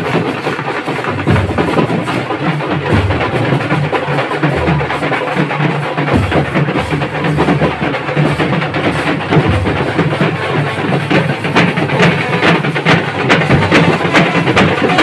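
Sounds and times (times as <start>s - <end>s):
drums beating: 0.0s - 15.0s.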